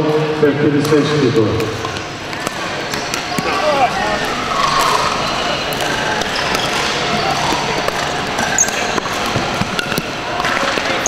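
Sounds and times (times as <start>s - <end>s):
chatter of many people: 0.0s - 11.0s
paddles hitting plastic balls: 0.8s - 11.0s.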